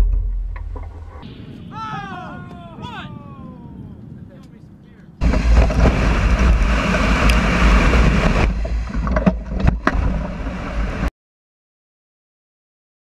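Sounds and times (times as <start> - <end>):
wind buffeting camera: 0.0 - 11.1.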